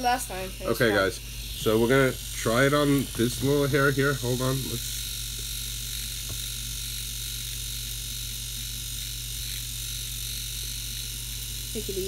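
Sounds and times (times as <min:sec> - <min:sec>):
hair trimmer buzzing: 0:00.0 - 0:12.0.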